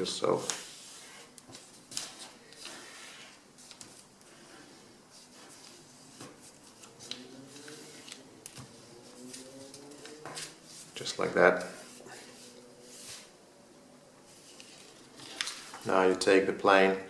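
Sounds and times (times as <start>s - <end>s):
paper rustling and crinkling: 0.3s - 13.3s, 14.3s - 15.9s.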